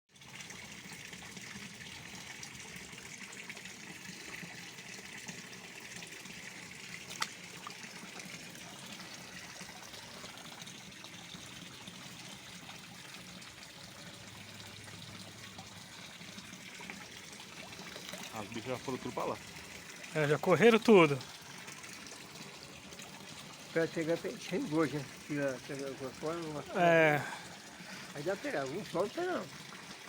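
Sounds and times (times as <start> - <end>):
water trickling: 0.1 - 30.0.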